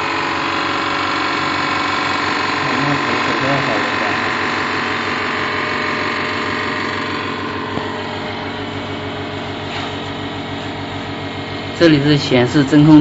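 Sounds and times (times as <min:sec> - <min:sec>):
vacuum pump running: 0:00.0 - 0:13.0.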